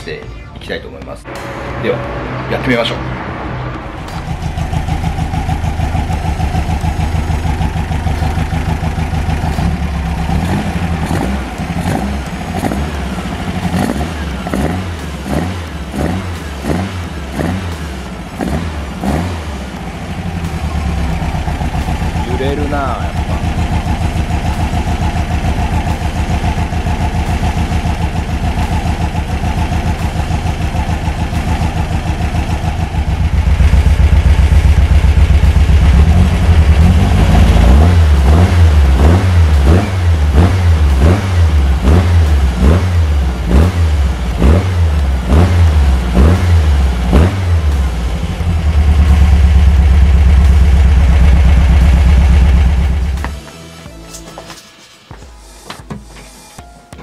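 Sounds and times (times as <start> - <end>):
car engine idling and revving: 0.0 - 53.5.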